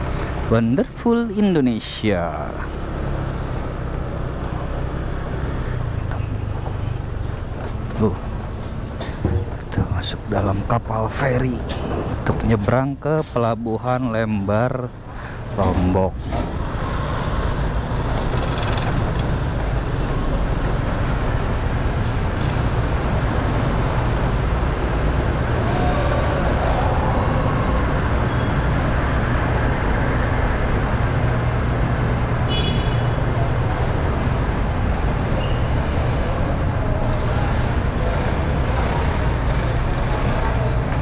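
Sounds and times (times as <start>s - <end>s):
motor scooter engines: 0.0s - 10.3s, 11.4s - 41.0s.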